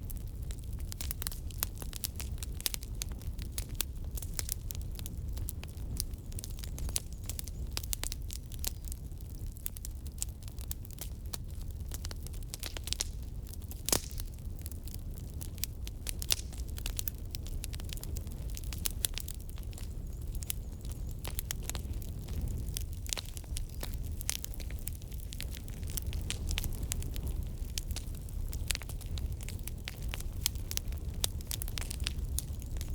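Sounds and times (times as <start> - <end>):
firewood crackling and popping: 0.0 - 32.9
low rumble of fire: 0.0 - 32.9.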